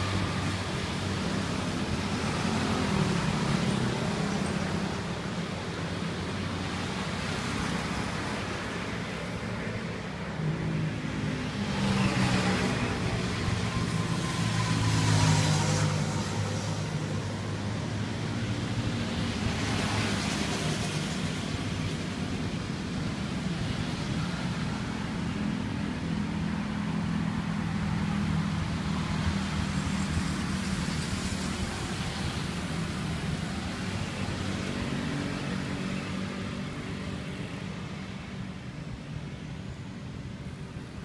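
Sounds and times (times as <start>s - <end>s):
motor vehicles passing: 0.0s - 41.0s.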